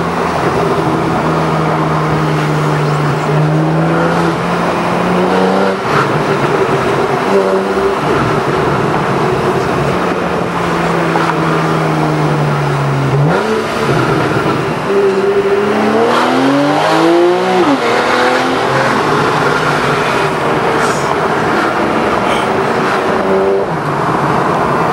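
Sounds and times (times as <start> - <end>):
car engine revving and accelerating: 0.0 - 24.9.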